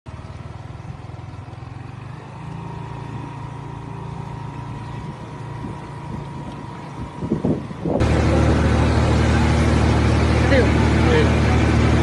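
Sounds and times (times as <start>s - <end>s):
vehicle engine running: 0.1s - 12.0s.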